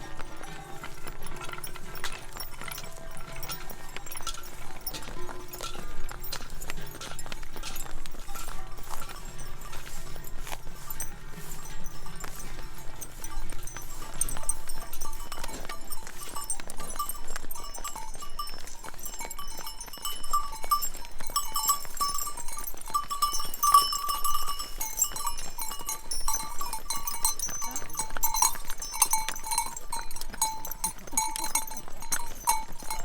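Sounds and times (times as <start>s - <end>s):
cowbells clanging: 0.0s - 33.0s.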